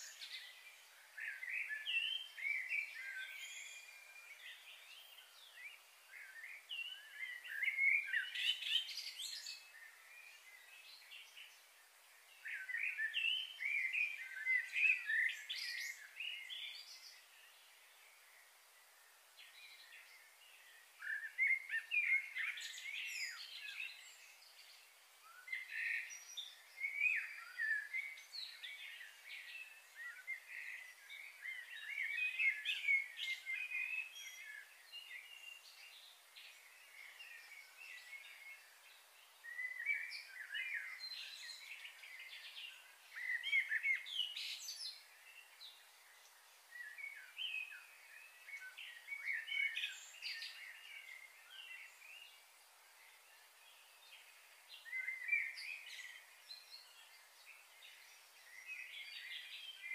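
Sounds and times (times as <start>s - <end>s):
faint steady hiss: 0.0s - 59.9s
small birds chirping: 0.0s - 59.9s.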